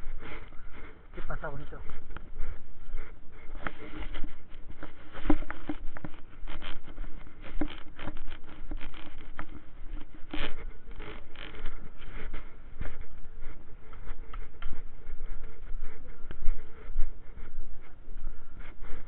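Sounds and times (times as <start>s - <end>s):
footsteps on cobblestones: 0.0s - 19.0s.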